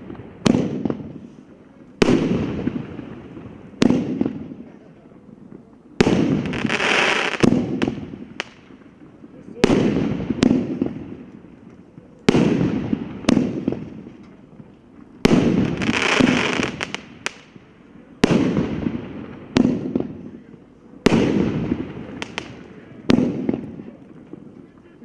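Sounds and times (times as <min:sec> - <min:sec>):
crackling hiss with small pops: 0:00.0 - 0:09.5, 0:10.2 - 0:25.0
firework bangs echoing: 0:00.0 - 0:24.8.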